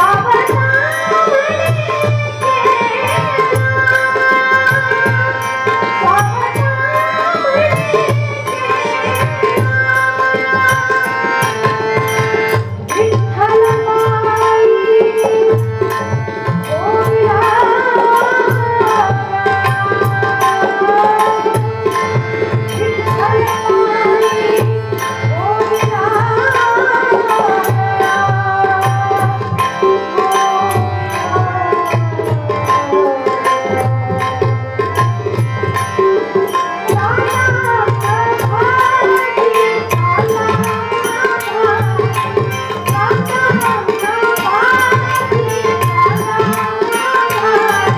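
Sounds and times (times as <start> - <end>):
person singing devotional melody: 0.0 - 47.9
hand drum rhythm: 7.6 - 47.9.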